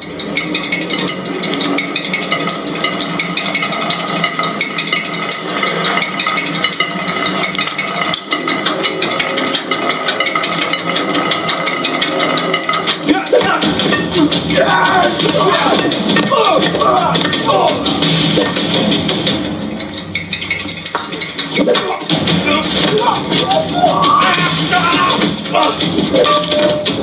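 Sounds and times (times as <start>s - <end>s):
clattering and knocking effects: 0.0s - 27.0s
steady tones: 0.0s - 27.0s.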